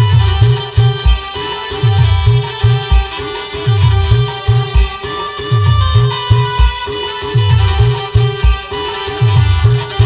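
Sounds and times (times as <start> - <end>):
steady held note and melody: 0.0 - 10.0.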